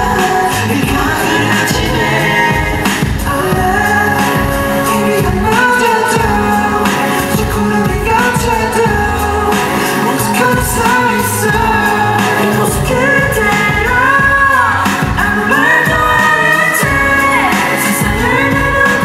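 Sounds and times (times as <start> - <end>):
live pop music with singing: 0.0 - 19.0.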